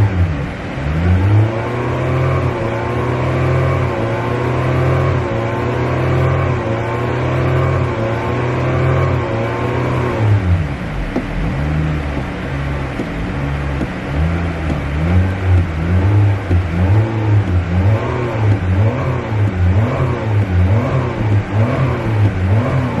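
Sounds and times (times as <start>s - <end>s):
car engine revving in blips: 0.0s - 23.0s.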